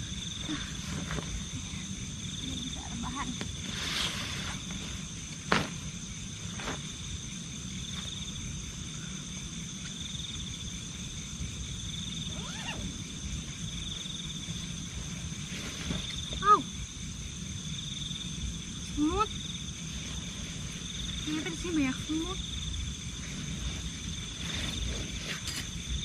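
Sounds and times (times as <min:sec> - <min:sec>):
insects trilling: 0:00.0 - 0:26.0
low background rumble: 0:00.0 - 0:26.0.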